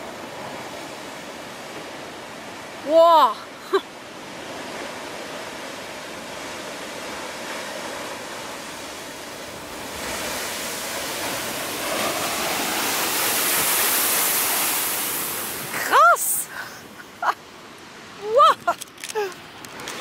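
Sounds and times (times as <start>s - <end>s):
waves breaking against rocks: 0.0s - 17.1s.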